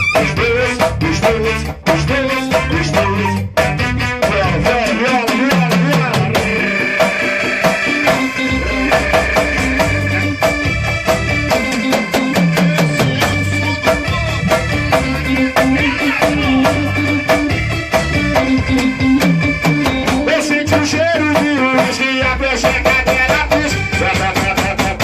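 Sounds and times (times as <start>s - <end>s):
band playing instrumental: 0.0s - 25.0s
bass line: 0.0s - 25.0s
drum kit beat: 0.0s - 25.0s
held keyboard chords: 0.0s - 25.0s.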